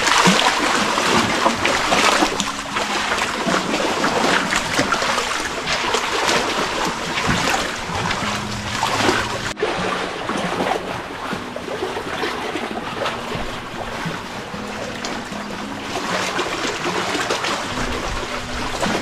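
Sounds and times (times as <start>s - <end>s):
small waves lapping against rocks: 0.0s - 19.0s.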